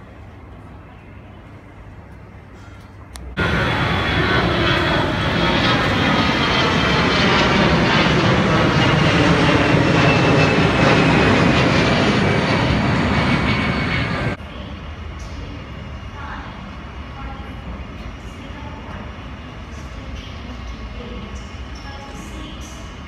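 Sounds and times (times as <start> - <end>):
jet airliner passing overhead: 1.5 - 23.0.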